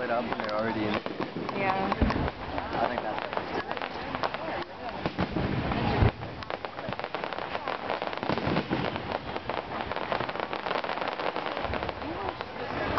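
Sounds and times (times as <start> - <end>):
fireworks crackling and popping: 0.0 - 12.9.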